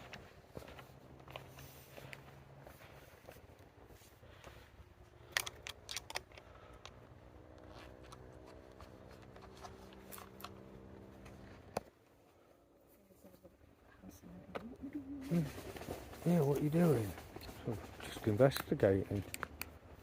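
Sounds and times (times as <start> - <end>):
handling clicks and rustles: 0.0 - 12.4, 14.5 - 20.0.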